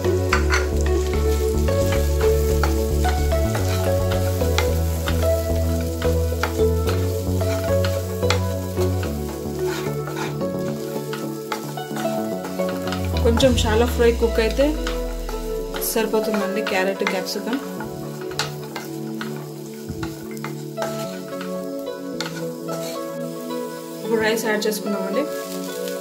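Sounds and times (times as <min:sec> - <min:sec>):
wooden spatula scraping a pan: 0:00.0 - 0:24.3
background music: 0:00.0 - 0:26.0
vegetables sizzling in a pan: 0:00.0 - 0:26.0.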